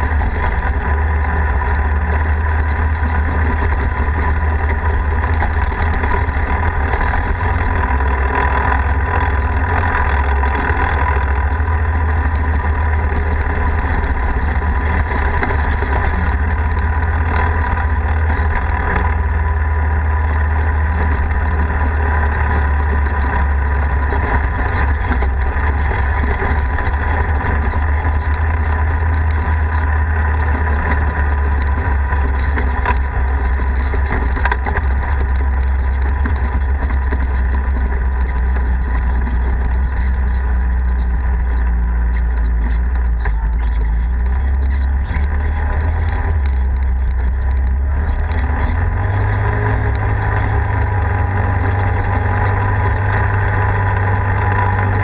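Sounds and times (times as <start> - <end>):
tyre and road noise: 0.0 - 55.0
vehicle engine running: 0.0 - 55.0.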